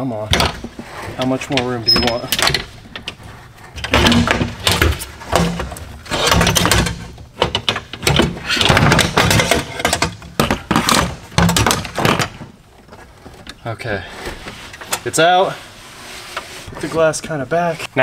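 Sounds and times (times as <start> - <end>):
metal clattering and scraping: 0.3 - 17.3.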